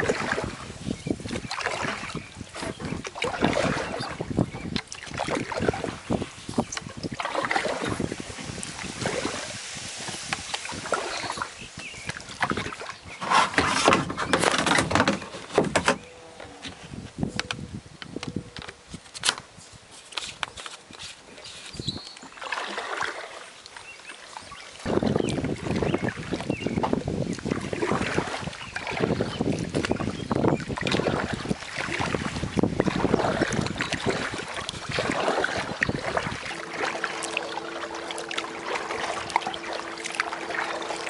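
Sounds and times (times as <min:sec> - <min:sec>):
paddle splashing water: 0:00.0 - 0:16.0, 0:20.0 - 0:41.0.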